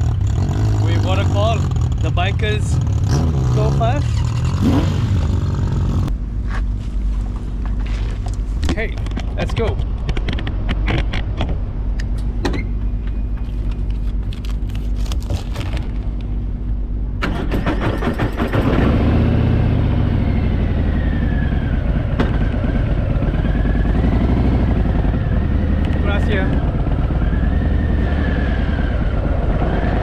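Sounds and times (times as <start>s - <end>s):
motorcycle engines at low speed: 0.0s - 30.0s.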